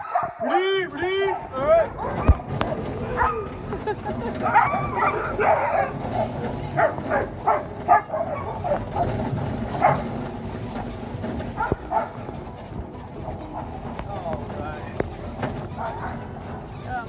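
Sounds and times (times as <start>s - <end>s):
sled dogs barking and yipping: 0.0s - 17.0s.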